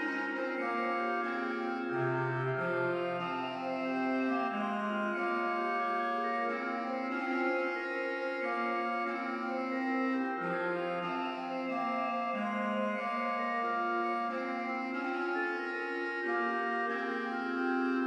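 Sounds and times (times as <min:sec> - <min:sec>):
pipe organ playing: 0:00.0 - 0:18.0.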